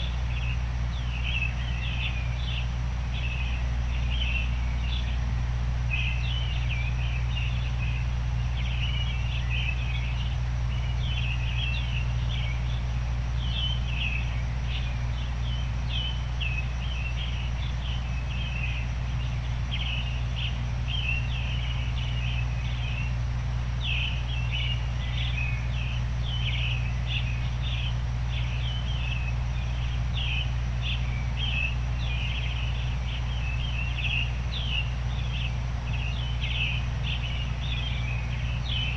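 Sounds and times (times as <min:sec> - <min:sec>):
constant low rumble: 0:00.0 - 0:38.9
songbirds chirping: 0:00.0 - 0:38.9
steady white noise: 0:00.0 - 0:38.9.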